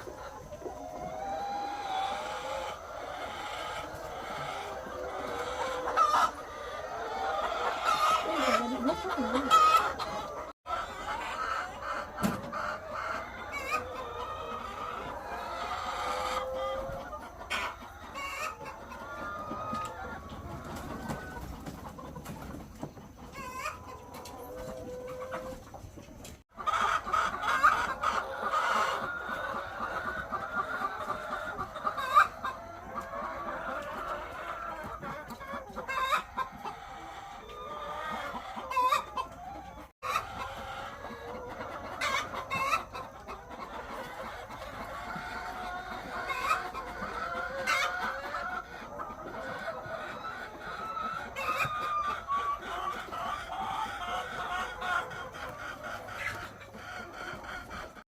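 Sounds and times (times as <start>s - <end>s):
flock of chickens clucking: 0.0s - 58.0s.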